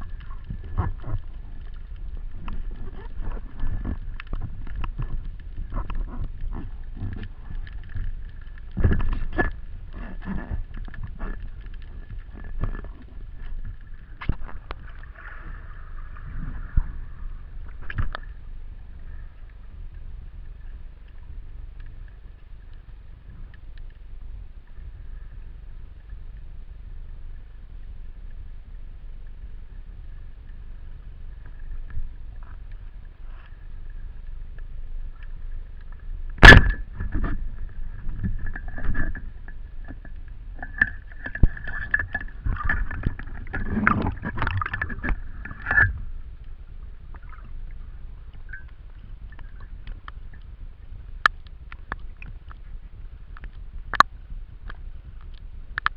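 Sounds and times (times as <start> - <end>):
knocks and clicks underwater: 0.0 - 26.5, 30.1 - 55.9
underwater rumble of water: 0.0 - 55.9.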